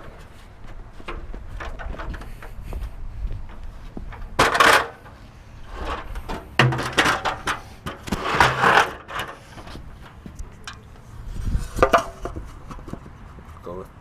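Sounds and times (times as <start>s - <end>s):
objects clattering and rustling: 1.0s - 2.7s, 3.4s - 13.5s.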